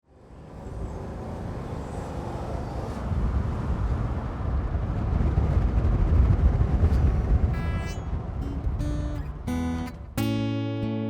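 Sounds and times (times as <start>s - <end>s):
vehicle rumble: 0.1s - 10.4s.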